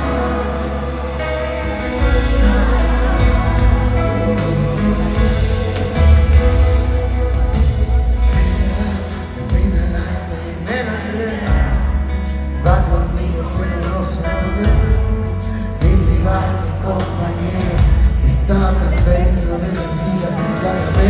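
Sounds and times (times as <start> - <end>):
live pop-rock band: 0.0 - 21.0
person singing: 0.0 - 21.0.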